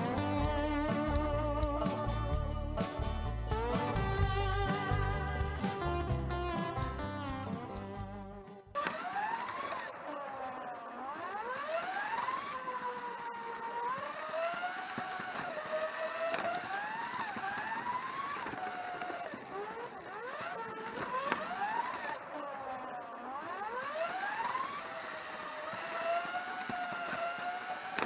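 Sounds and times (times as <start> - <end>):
slot car motor whining: 0.0 - 28.0.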